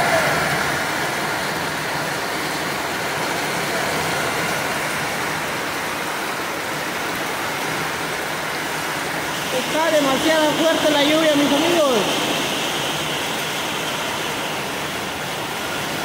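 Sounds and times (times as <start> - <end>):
heavy rain on trees and ground: 0.0 - 16.0.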